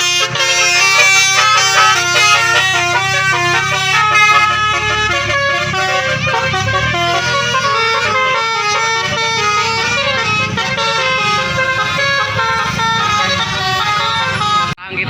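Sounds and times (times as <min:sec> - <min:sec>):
bus horn playing a tune: 0:00.0 - 0:14.8
low engine rumble: 0:00.0 - 0:15.0.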